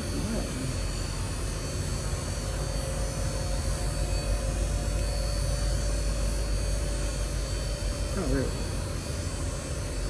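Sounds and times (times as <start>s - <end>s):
faint steady whine: 0.0s - 10.0s.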